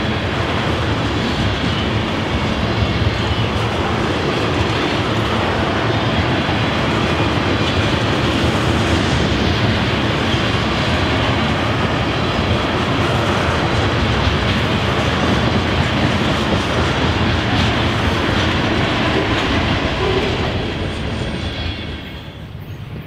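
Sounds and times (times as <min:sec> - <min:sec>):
train wheels rolling on rail: 0:00.0 - 0:23.0.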